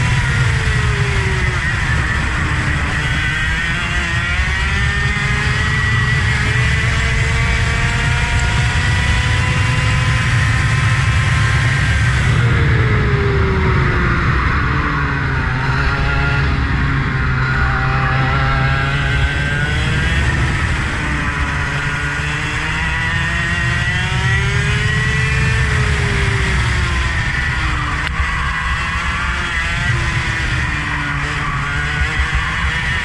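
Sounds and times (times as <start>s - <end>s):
vehicle engine revving: 0.0s - 33.0s.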